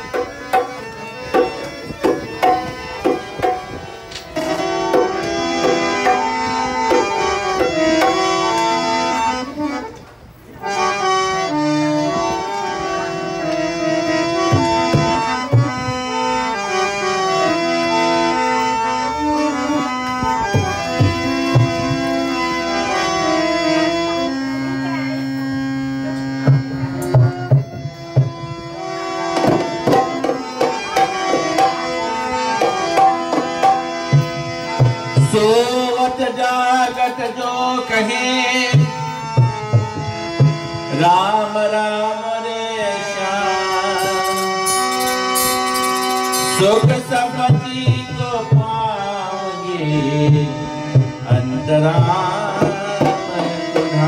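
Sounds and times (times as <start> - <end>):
harmonium melody: 0.0 - 54.0.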